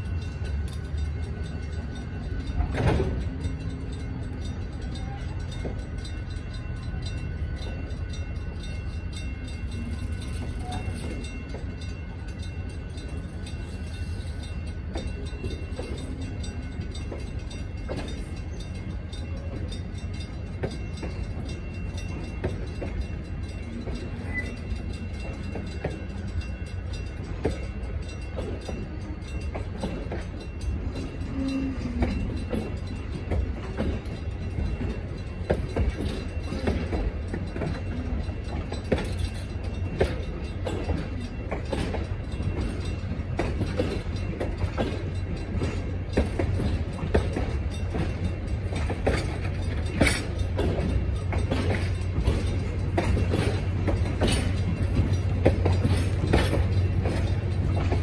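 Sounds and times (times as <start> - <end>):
train cars rolling rumble: 0.0 - 58.0
wheels clicking over rail joints: 0.0 - 58.0.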